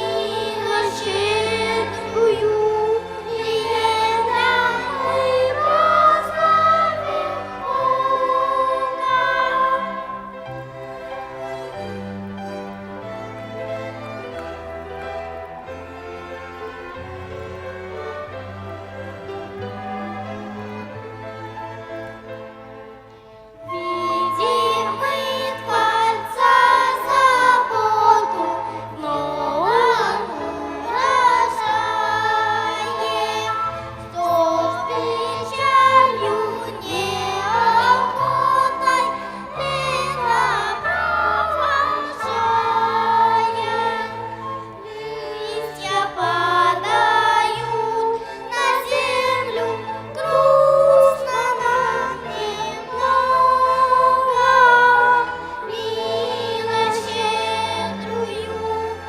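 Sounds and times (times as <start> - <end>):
choir singing a hymn: 0.0 - 22.4, 23.6 - 59.0
violins holding low notes: 0.0 - 59.0.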